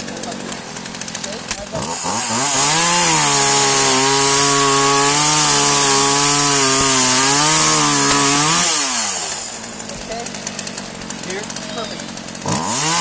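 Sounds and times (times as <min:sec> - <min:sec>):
chainsaw engine at full throttle: 0:00.0 - 0:13.0.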